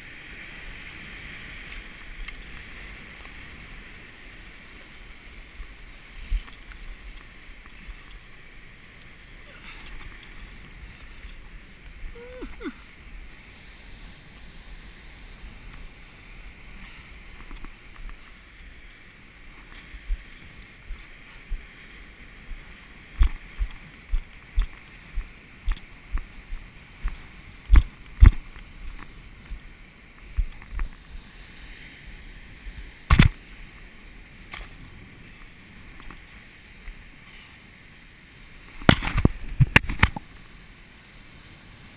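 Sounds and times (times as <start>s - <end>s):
sea surf washing over rocks: 0.0s - 41.9s.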